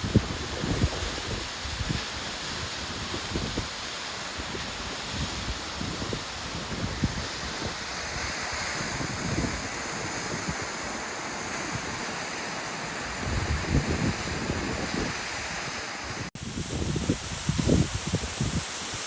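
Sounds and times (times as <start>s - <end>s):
wind buffeting microphone: 0.0s - 3.8s, 4.4s - 18.7s
waterfall rushing: 0.0s - 19.0s.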